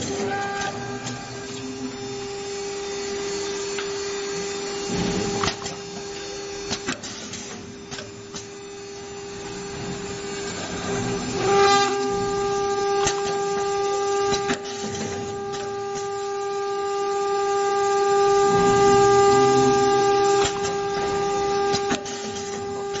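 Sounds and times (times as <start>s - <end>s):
machine spindles whining: 0.0s - 23.0s.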